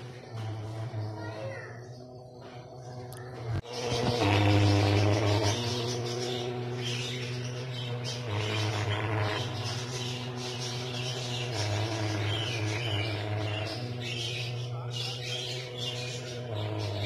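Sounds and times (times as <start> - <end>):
birds chirping: 0.0 - 17.0
low drone: 0.0 - 17.0.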